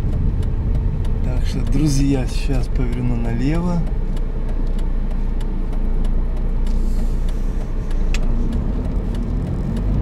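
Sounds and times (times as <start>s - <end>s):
car engine and road noise: 0.0s - 10.0s
turn signal ticking: 0.0s - 10.0s.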